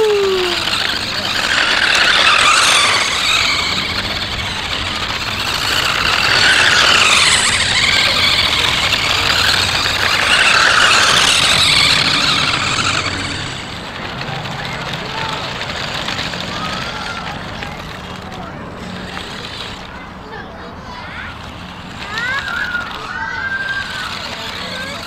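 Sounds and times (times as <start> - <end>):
toy electric motor and gears whining: 0.0 - 25.0.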